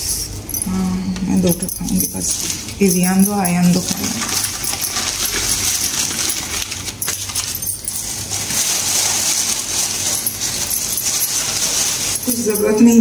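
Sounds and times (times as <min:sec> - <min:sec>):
glass bangles jingling: 0:00.0 - 0:13.0
paper and plastic bag crinkling: 0:01.9 - 0:13.0.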